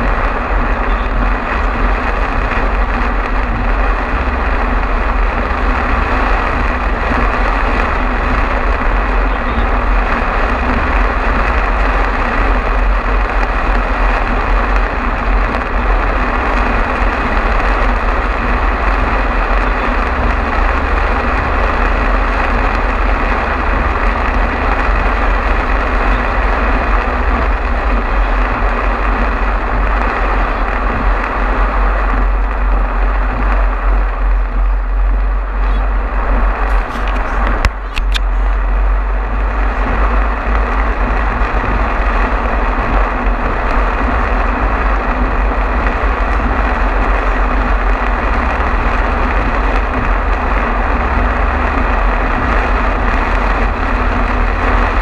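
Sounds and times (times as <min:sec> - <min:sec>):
heavy rain on car: 0:00.0 - 0:55.0
road and engine rumble: 0:00.0 - 0:55.0.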